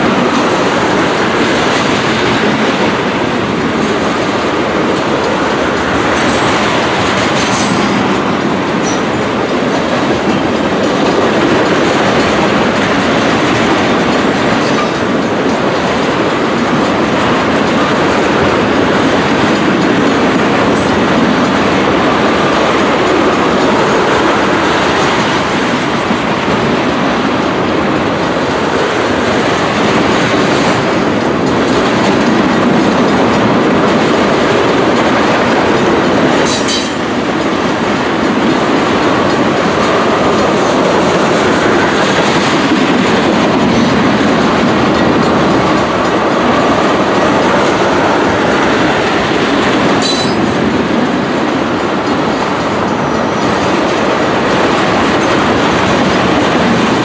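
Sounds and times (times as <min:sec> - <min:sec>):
train wheels rumbling on rails: 0:00.0 - 0:57.0
wheels clacking over rail joints: 0:00.0 - 0:57.0.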